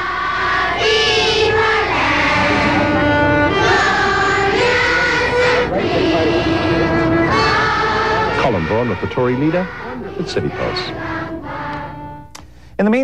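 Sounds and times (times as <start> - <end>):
children singing: 0.0 - 12.3.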